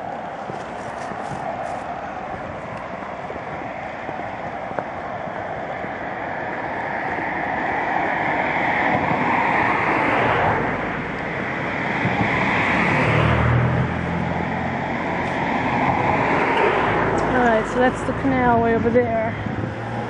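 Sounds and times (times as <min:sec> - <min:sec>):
cars passing on road: 0:00.0 - 0:20.0
low engine hum: 0:00.0 - 0:20.0.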